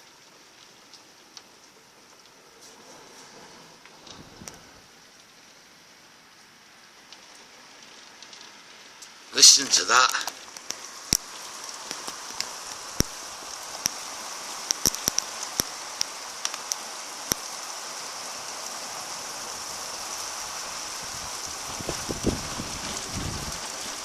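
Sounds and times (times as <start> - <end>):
heavy rain pouring: 0.0 - 24.0
raindrops ticking on hard surface: 0.0 - 24.0.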